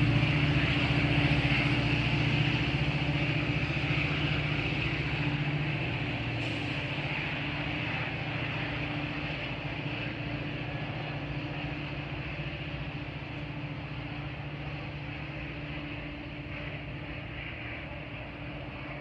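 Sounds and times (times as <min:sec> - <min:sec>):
diesel train hum: 0:00.0 - 0:19.0.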